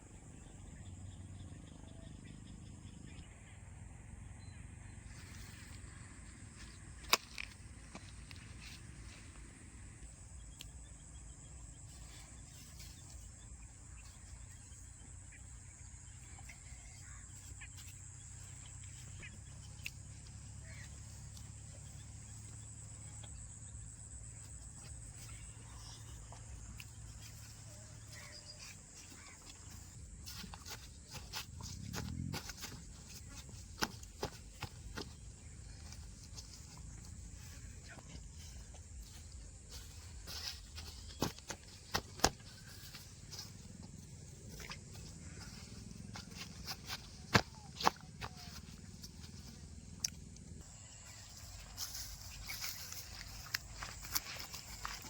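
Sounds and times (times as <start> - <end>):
low steady engine rumble: 0.0 - 55.0.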